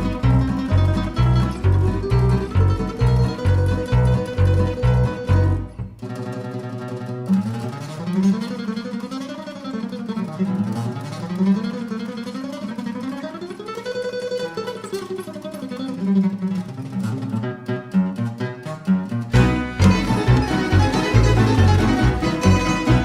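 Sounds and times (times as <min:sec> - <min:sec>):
plucked strings music: 0:00.0 - 0:23.0.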